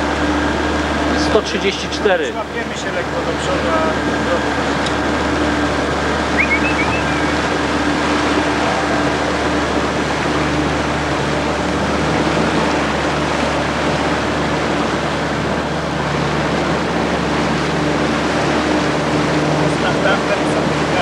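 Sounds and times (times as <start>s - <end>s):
motorboat engine running: 0.0s - 21.0s
water rushing along hull: 0.0s - 21.0s.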